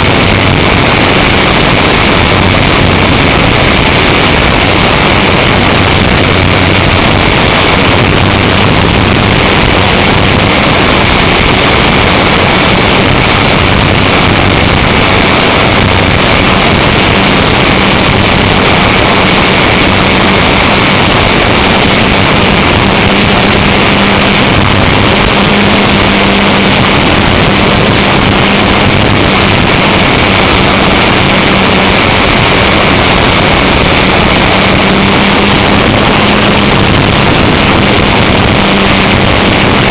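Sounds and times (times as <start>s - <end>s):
electric motor whine: 0.0s - 39.9s
low hum: 0.0s - 39.9s
wind rush and propeller noise: 0.0s - 39.9s.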